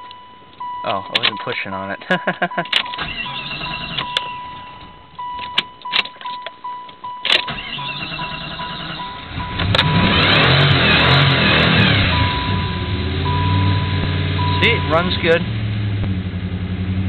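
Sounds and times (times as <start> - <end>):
warning chime beeping: 0.0 - 15.4
car engine cranking and revving: 0.0 - 17.0.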